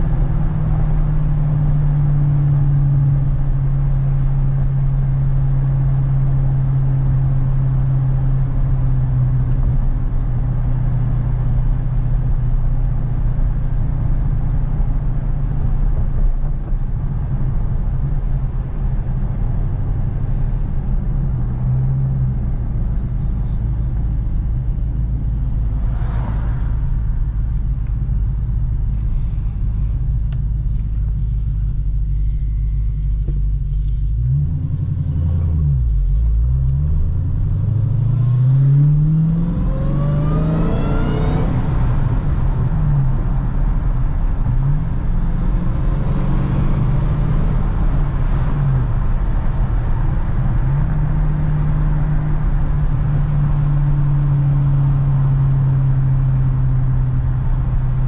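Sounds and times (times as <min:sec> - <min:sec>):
car engine droning from inside cabin: 0:00.0 - 0:58.0.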